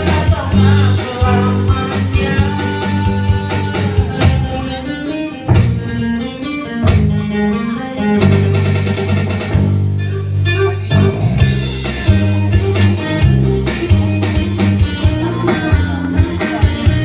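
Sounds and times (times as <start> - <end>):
live band playing blues rock: 0.0 - 17.0.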